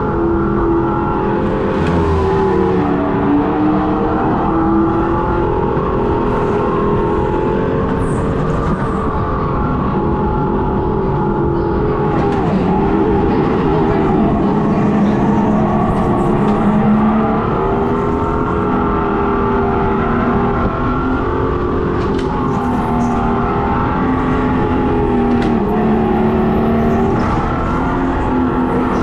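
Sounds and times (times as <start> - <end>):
low rush of driving noise: 0.0 - 29.0
synthetic engine sound from speaker: 0.0 - 29.0.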